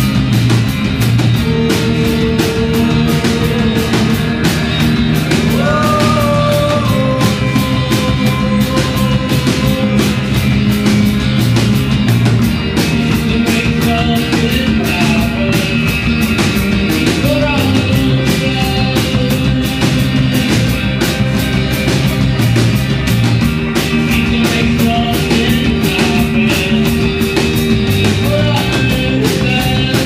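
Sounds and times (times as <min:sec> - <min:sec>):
live band playing upbeat song: 0:00.0 - 0:30.0.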